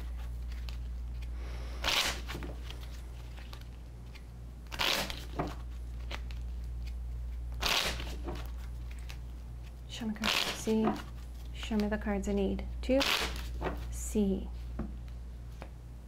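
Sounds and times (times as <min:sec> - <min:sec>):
cards being shuffled: 0:00.0 - 0:12.3, 0:13.0 - 0:14.0.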